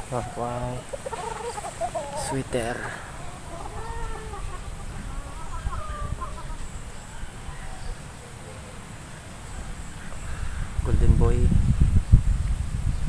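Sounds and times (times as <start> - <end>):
chickens clucking: 0.0 - 10.6.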